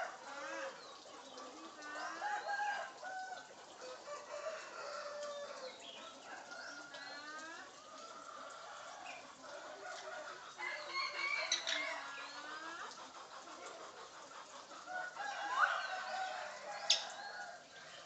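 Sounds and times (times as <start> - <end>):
chicken-like clucking and crowing: 0.0 - 18.0.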